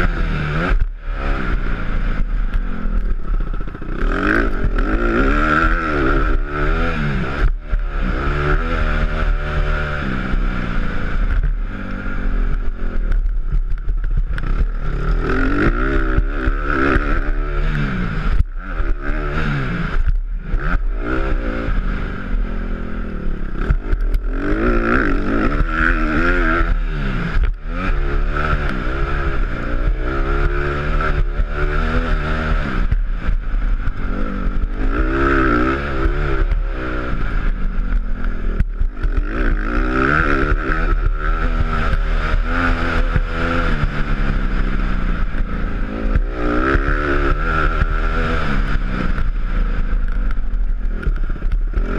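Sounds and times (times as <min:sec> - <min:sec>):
dirt bike engine revving: 0:00.0 - 0:51.9
low rumble: 0:00.0 - 0:51.9.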